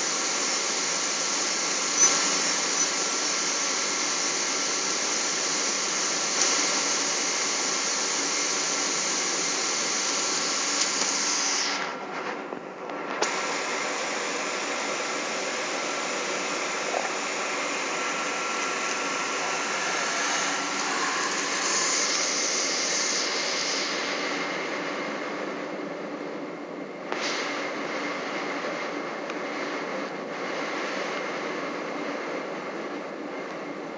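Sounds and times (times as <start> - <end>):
thin steady whine: 0.0 - 33.9.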